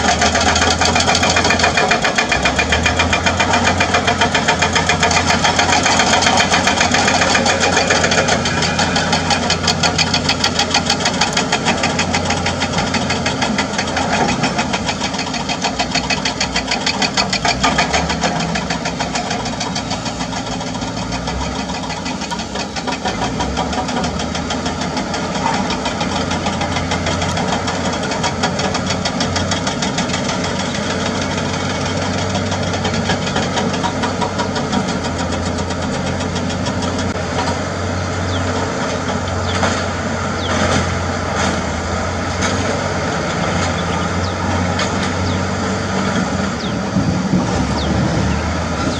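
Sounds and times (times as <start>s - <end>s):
excavator diesel engine: 0.0s - 48.9s
hydraulic breaker hammer pounding: 0.0s - 48.9s.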